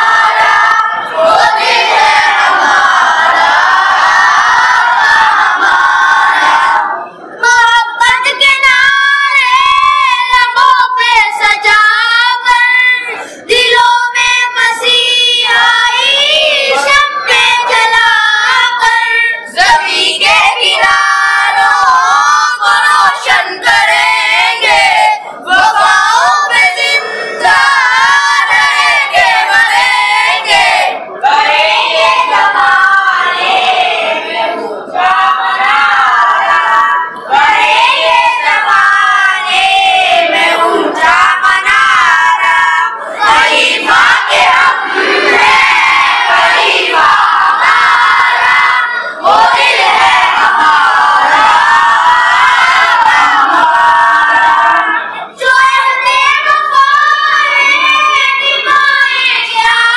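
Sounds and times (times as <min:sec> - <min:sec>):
boys singing together: 0:00.0 - 0:59.9.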